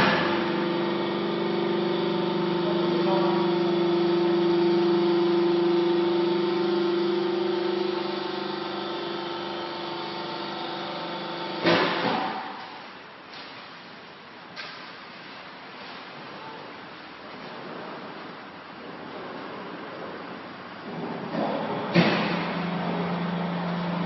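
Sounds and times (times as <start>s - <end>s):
hydraulic motor and pump humming: 0.0s - 24.0s.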